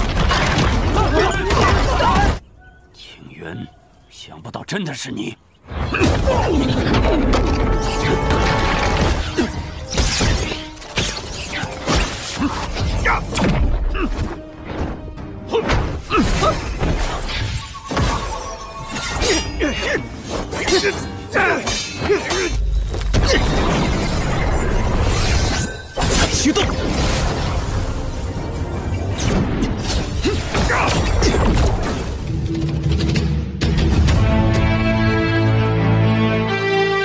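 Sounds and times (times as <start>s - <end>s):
dramatic music: 5.9s - 37.0s.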